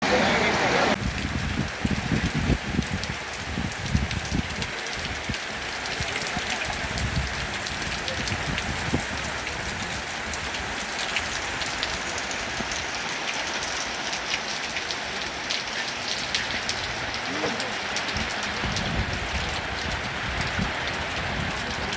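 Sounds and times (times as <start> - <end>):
rain on a hard surface: 0.0 - 21.9.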